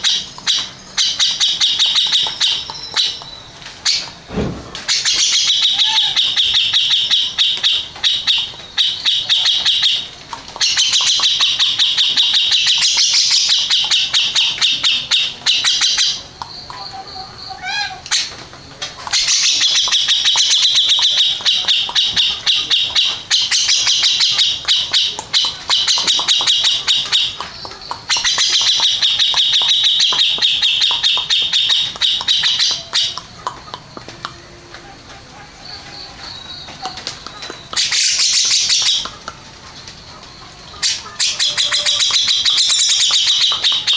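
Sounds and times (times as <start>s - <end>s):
bird singing rapid trills: 0.0s - 4.2s, 4.9s - 18.4s, 19.0s - 34.6s, 35.5s - 43.9s.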